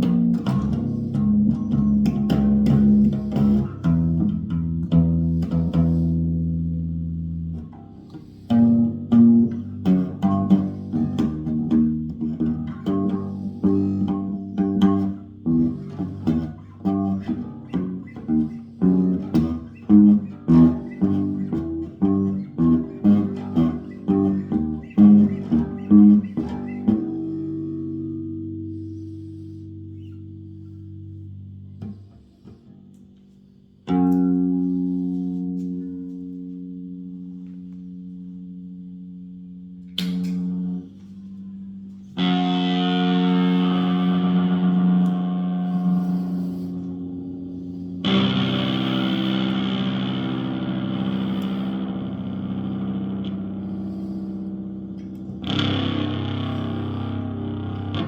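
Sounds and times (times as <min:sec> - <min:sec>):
electric bass guitar notes: 0:00.0 - 0:58.0.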